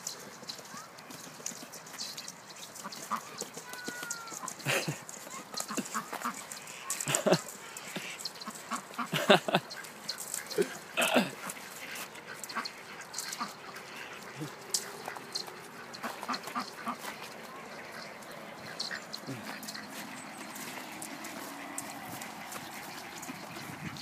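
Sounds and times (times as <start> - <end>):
ducks quacking: 1.5 - 24.0.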